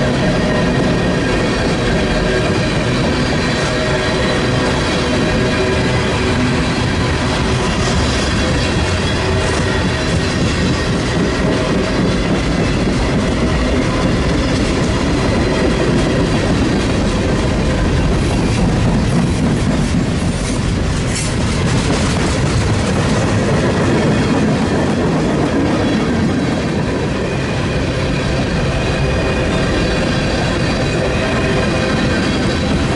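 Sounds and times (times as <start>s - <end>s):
train rumbling over rails: 0.0s - 32.9s.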